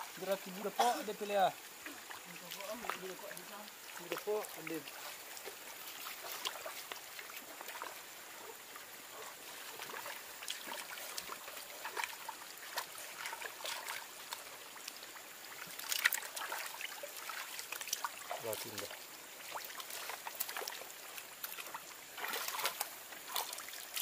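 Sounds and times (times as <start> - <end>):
water splashing in a basin: 0.0 - 24.0.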